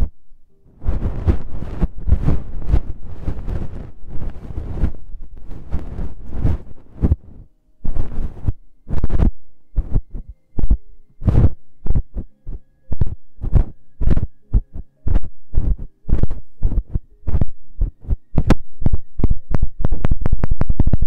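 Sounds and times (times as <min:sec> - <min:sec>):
ear pick brushing microphone: 0:00.8 - 0:21.0.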